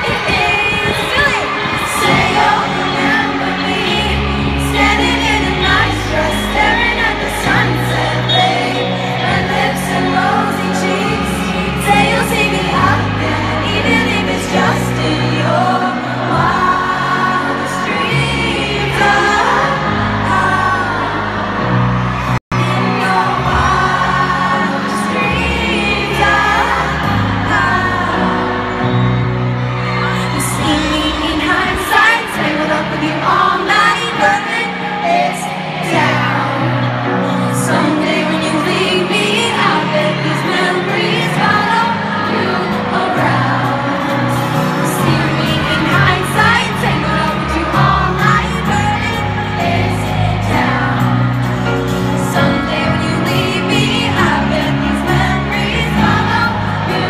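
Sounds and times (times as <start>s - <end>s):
pop band playing: 0.0s - 57.0s
woman singing: 0.0s - 57.0s.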